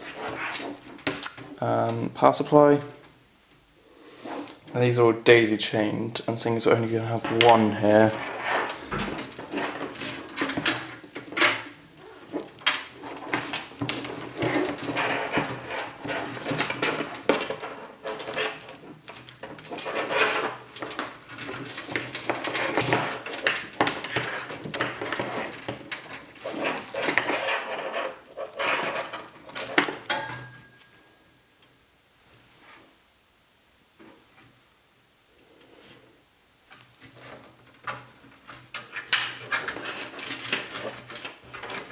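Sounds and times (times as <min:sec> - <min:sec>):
cables rustling and scraping: 0:00.0 - 0:31.4, 0:35.4 - 0:41.9.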